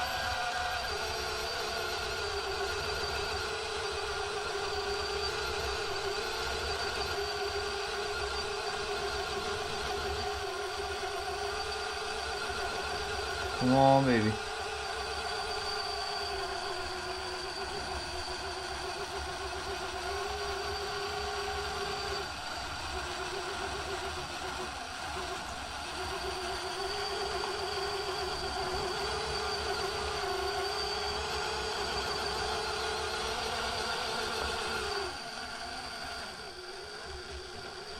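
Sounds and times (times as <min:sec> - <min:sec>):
toy car motor whining: 0:00.0 - 0:37.9.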